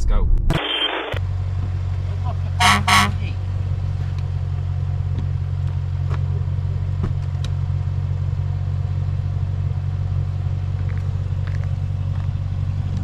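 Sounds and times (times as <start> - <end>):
car engine idling: 1.2 - 13.0.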